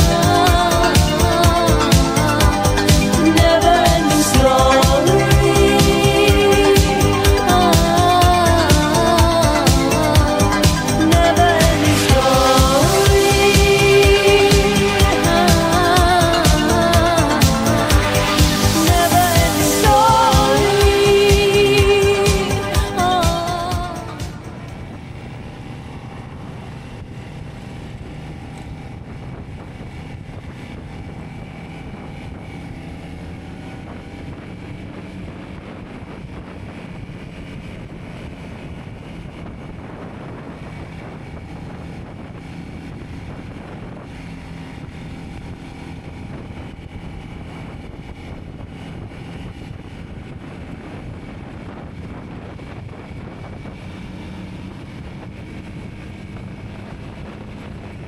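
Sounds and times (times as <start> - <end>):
vehicle engine running: 0.0 - 58.0
wind noise on microphone: 0.0 - 58.0.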